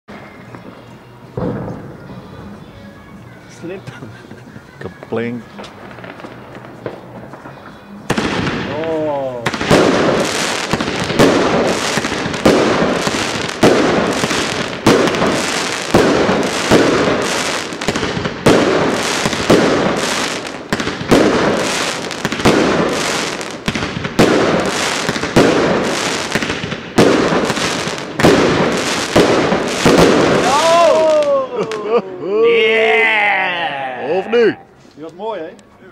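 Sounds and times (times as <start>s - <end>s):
firework crackling: 0.1s - 32.0s
firework bangs: 0.5s - 2.6s, 5.0s - 31.8s.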